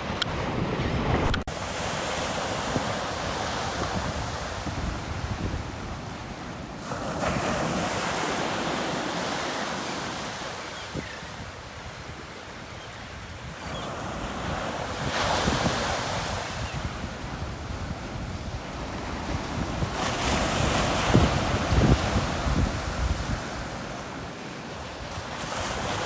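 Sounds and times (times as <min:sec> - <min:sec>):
wind buffeting microphone: 0:00.0 - 0:09.4, 0:10.1 - 0:26.0
waves crashing on beach: 0:00.0 - 0:26.0.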